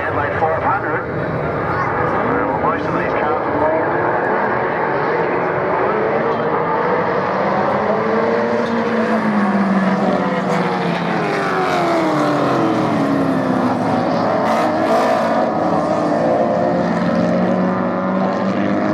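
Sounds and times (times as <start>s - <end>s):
racing car engines revving: 0.0s - 18.9s.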